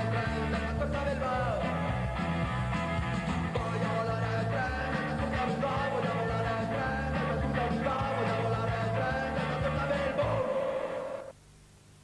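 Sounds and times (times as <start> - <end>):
punk rock band playing: 0.0 - 10.7.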